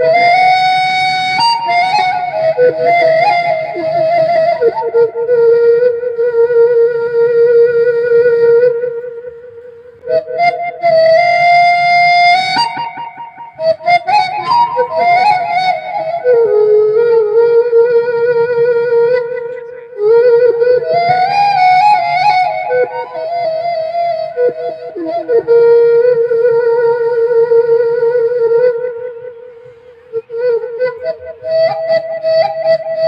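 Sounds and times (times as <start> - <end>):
bamboo flute melody: 0.0 - 33.0.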